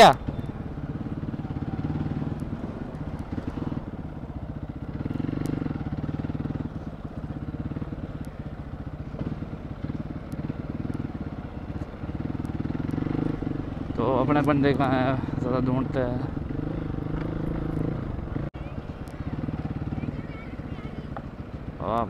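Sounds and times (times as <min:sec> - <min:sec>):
motorcycle engine at low revs: 0:00.0 - 0:22.0.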